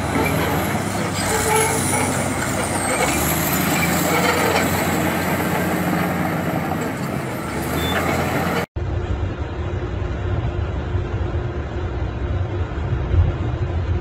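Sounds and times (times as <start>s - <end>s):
bulldozer diesel engine running: 0.0s - 14.0s
heavy machinery engine noise: 0.0s - 14.0s.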